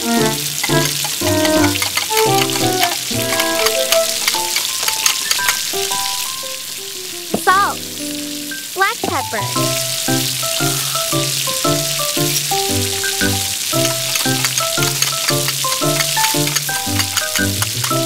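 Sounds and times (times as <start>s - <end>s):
eggs sizzling in oil: 0.0s - 18.0s
plucked background music: 0.0s - 18.0s.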